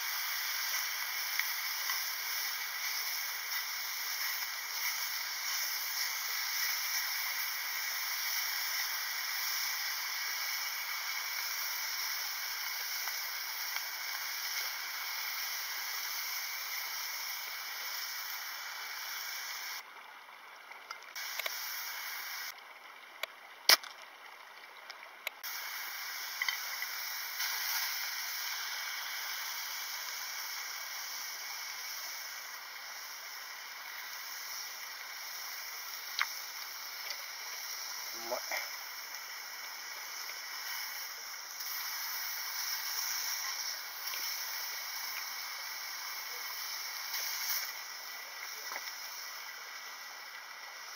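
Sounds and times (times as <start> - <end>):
meat sizzling in a frying pan: 0.0 - 19.8, 25.4 - 50.9.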